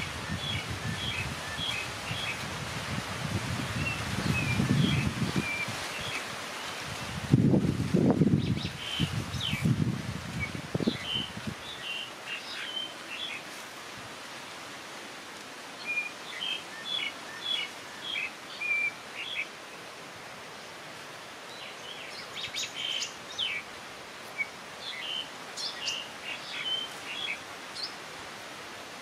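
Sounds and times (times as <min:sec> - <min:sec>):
faint outdoor hiss: 0:00.0 - 0:29.0.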